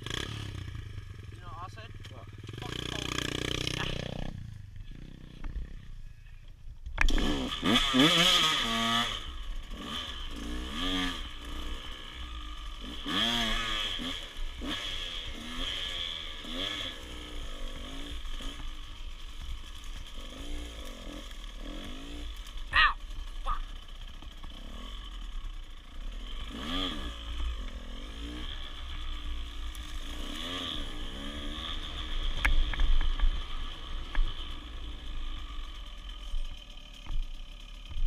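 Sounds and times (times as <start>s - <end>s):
dirt bike engine revving: 0.0s - 6.1s, 7.0s - 38.0s.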